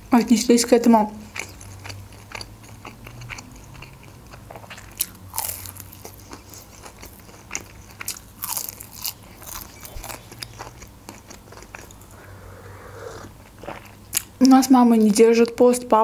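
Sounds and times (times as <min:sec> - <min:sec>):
crunchy chewing of food: 0:01.2 - 0:14.6.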